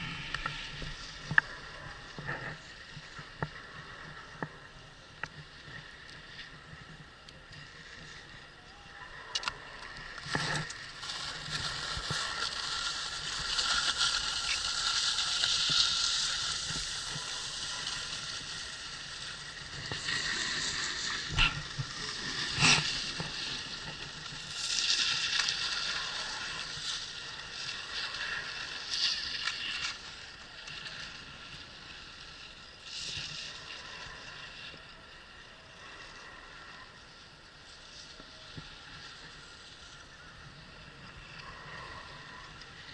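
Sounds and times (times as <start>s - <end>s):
skis scraping over snow: 0.0s - 36.9s, 37.7s - 42.9s.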